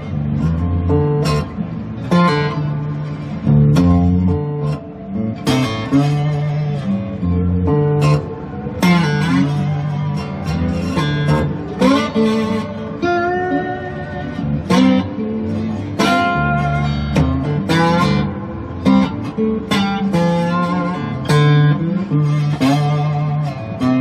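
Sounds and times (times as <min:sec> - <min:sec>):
strummed guitar chords: 0:00.0 - 0:24.0.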